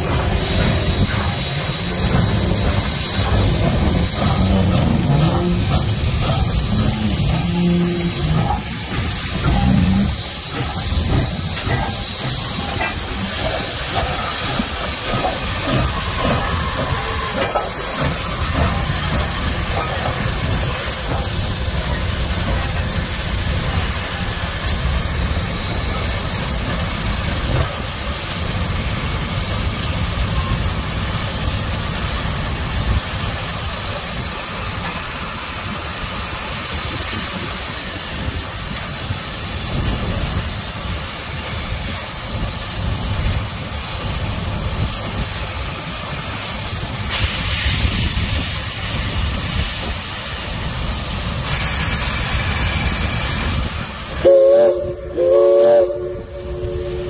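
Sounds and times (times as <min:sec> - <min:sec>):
locomotive low rumble: 0:00.0 - 0:57.0
steam locomotive hissing steam: 0:00.0 - 0:57.0.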